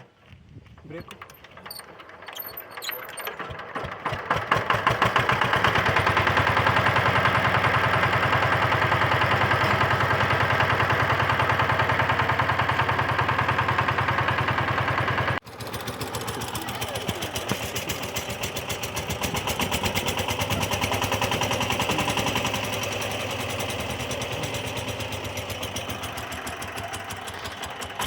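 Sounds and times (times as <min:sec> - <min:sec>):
diesel engine starting and running: 0:00.0 - 0:28.0.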